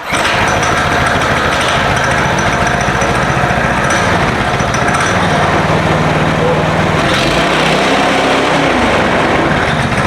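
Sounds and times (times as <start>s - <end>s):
small gasoline engine running: 0.0s - 10.0s.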